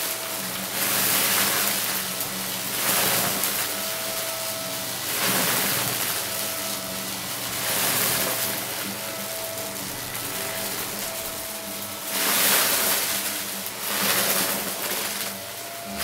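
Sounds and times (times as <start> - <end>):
debris rattling in vacuum: 0.0 - 16.0
vacuum cleaner motor humming: 0.0 - 16.0.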